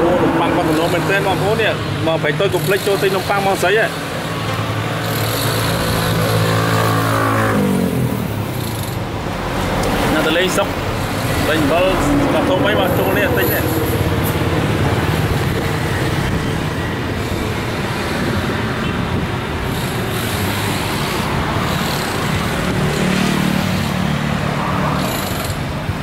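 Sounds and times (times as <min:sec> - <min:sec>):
vehicle passing: 0:00.0 - 0:02.2, 0:04.3 - 0:26.0
street noise: 0:00.0 - 0:26.0
vehicle engines running: 0:00.0 - 0:26.0.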